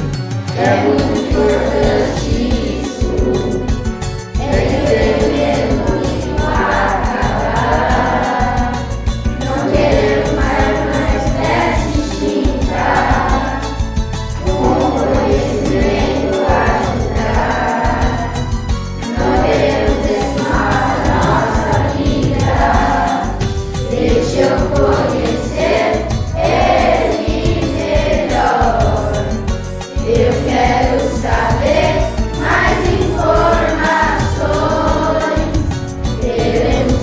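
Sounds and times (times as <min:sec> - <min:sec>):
group of voices singing in chorus: 0:00.0 - 0:37.0
instrumental accompaniment with beat: 0:00.0 - 0:37.0.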